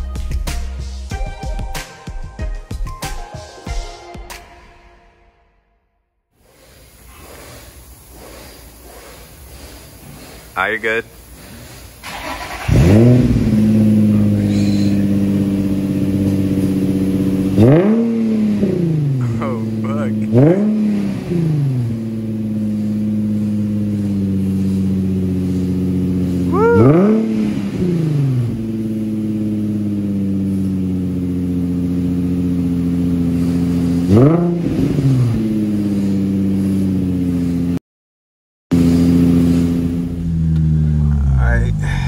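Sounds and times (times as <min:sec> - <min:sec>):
car engine idling and revving: 0:06.4 - 0:37.8, 0:38.7 - 0:42.0.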